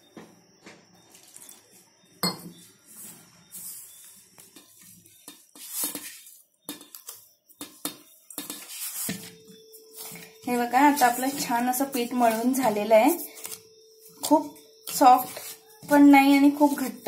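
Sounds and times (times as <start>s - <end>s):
hands mixing dough: 2.7s - 17.0s.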